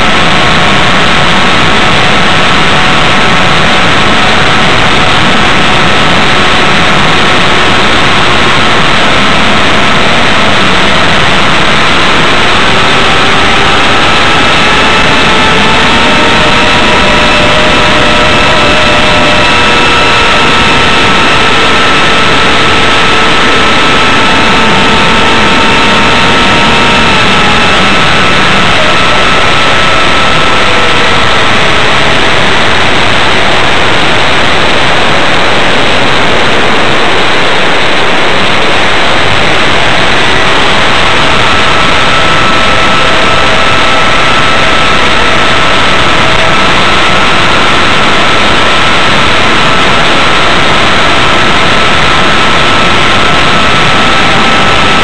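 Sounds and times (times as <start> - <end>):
electric motor whine: 0.0 - 55.0
wind rush on microphone: 0.0 - 55.0.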